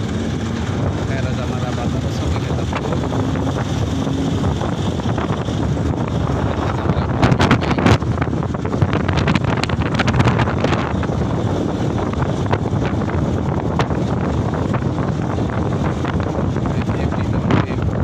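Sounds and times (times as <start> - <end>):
truck engine rumble and road noise: 0.0 - 18.0
wind buffeting microphone: 0.0 - 18.0.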